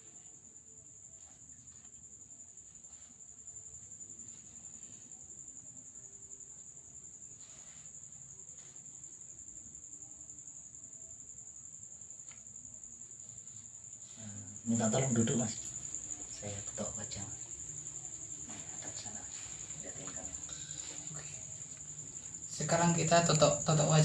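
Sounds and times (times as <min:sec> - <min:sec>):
low room noise: 0:00.0 - 0:24.0.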